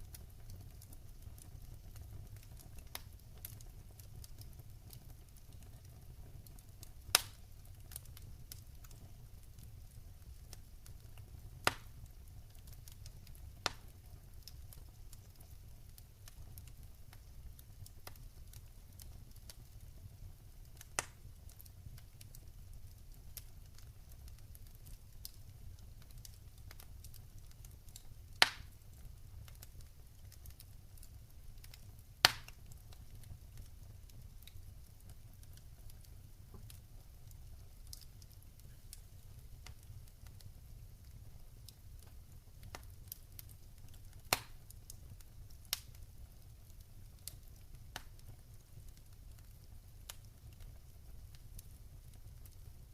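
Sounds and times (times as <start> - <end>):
fire crackles and pops: 0.0 - 52.9
wood fire rumbling: 0.0 - 52.9.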